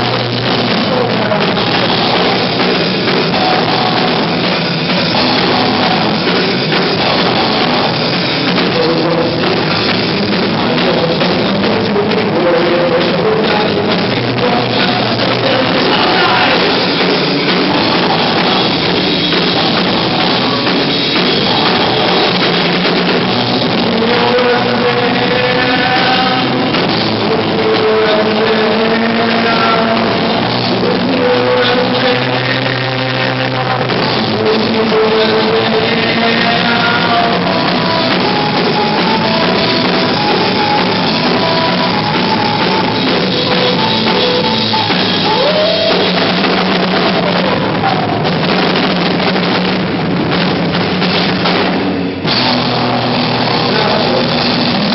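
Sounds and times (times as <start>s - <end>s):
person singing: 0.0s - 48.8s, 52.3s - 54.9s
bass guitar: 0.0s - 54.9s
drum kit: 0.0s - 54.9s
electric guitars: 0.0s - 54.9s.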